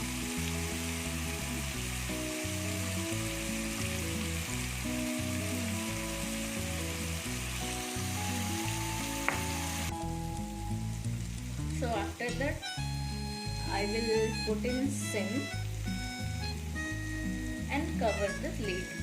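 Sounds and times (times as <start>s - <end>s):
chicken sizzling in hot oil: 0.0s - 19.0s
music with plodding bass line: 0.0s - 19.0s.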